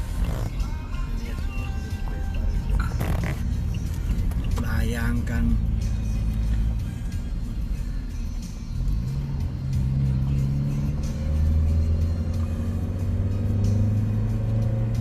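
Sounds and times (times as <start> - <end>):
music playing: 0.0 - 15.0
vehicle engine humming: 0.0 - 15.0.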